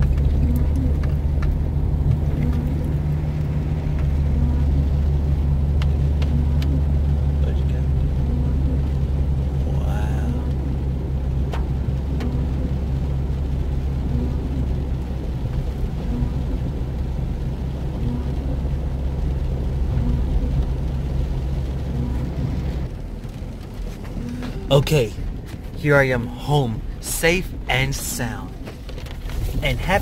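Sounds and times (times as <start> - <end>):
engine and road rumble: 0.0 - 30.0.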